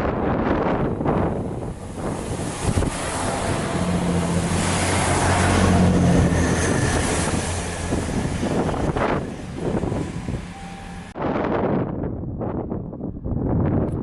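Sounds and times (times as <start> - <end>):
diesel train passing: 0.0 - 12.7
wind rumbling on microphone: 0.0 - 14.0.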